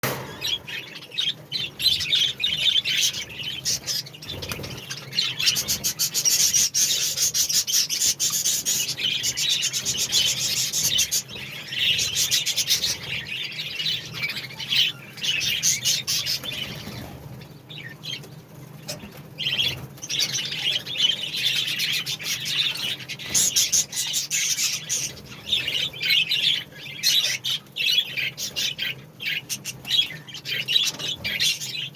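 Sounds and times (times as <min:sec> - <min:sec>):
budgerigars chattering and chirping: 0:00.0 - 0:31.9.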